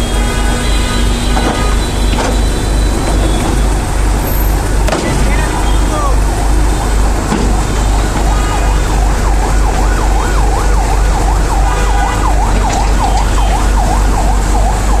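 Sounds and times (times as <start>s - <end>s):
diesel engine rumble: 0.0s - 15.0s
siren wailing: 0.0s - 15.0s.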